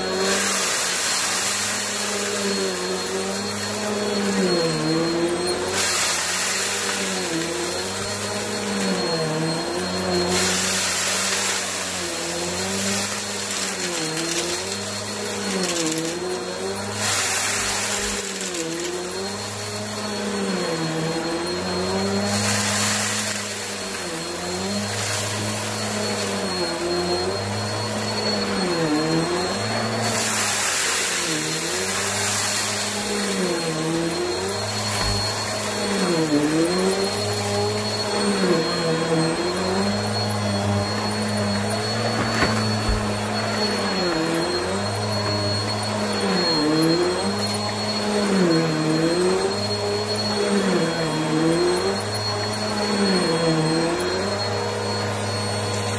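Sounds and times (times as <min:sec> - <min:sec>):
vacuum cleaner on carpet: 0:00.0 - 0:55.9
vacuum sucking up crumbs: 0:00.0 - 0:55.9.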